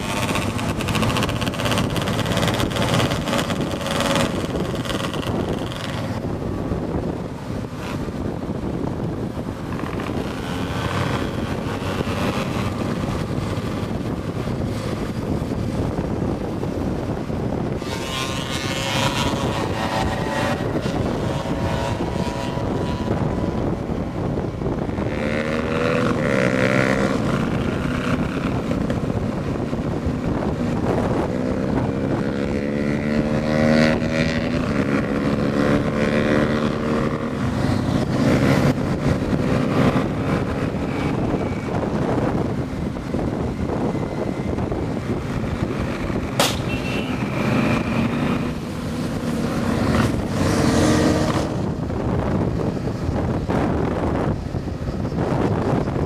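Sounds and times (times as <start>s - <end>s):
motorcycle engine accelerating: 0.0s - 56.0s
wind on microphone: 0.0s - 56.0s.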